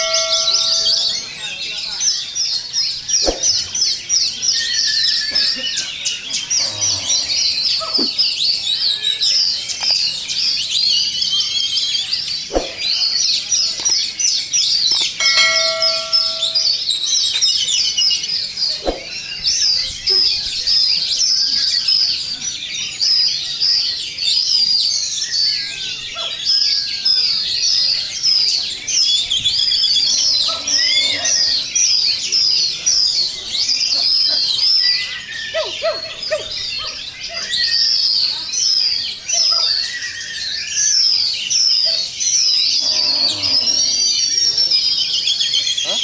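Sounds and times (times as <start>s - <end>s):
songbirds chorus: 0.0s - 46.0s.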